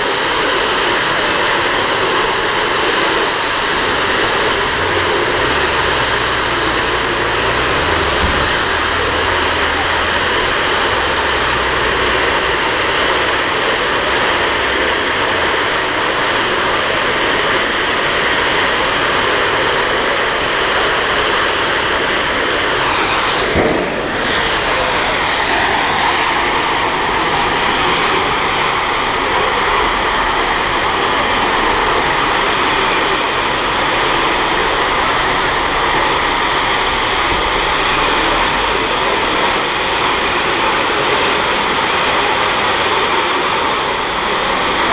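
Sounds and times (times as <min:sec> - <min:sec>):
burning gas jet rushing: 0:00.0 - 0:44.9.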